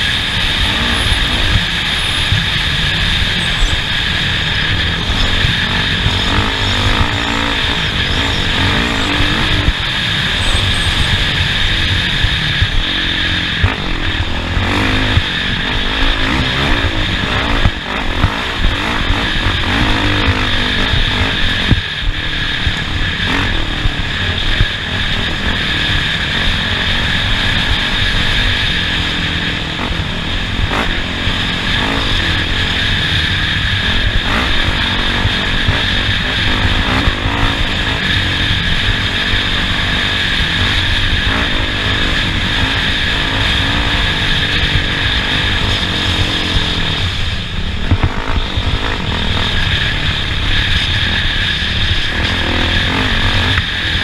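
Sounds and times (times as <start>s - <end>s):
race vehicle engine revving: 0.0s - 54.0s.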